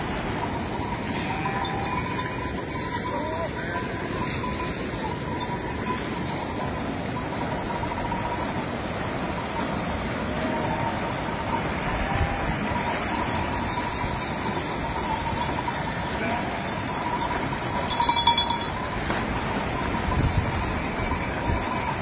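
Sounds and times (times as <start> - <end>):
shallow river rushing: 0.0 - 22.0.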